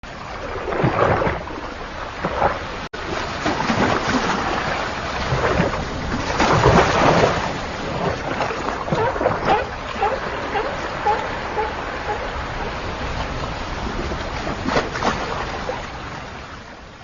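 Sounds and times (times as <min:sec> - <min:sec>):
water splashing against boat hull: 0:00.0 - 0:16.7
wind: 0:00.0 - 0:17.0.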